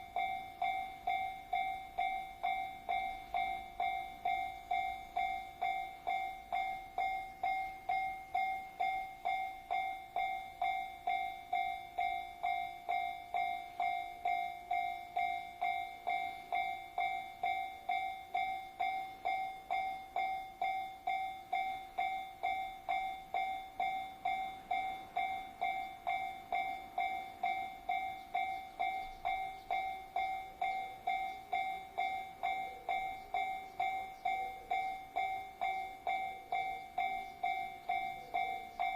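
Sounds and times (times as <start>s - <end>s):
level crossing bell ringing: 0.0s - 38.9s.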